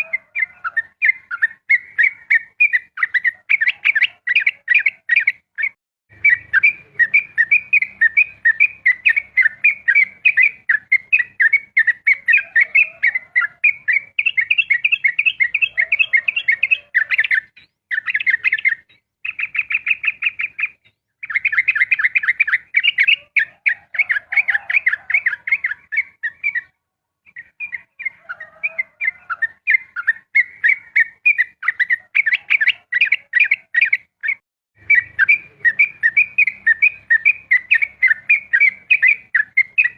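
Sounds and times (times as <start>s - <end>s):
bulbul singing chattering notes: 0.0s - 39.9s.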